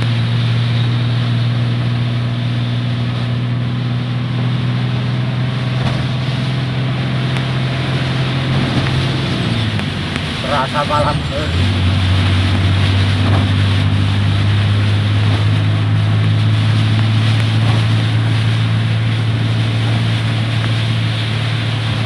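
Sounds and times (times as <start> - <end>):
heavy rain: 0.0 - 22.0
low engine drone: 0.0 - 22.0
strong wind: 0.0 - 22.0.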